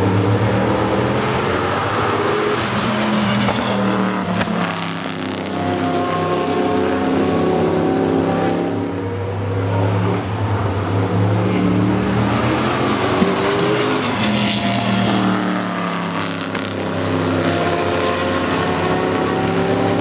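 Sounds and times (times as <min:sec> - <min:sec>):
race car engines passing: 0:00.0 - 0:20.0.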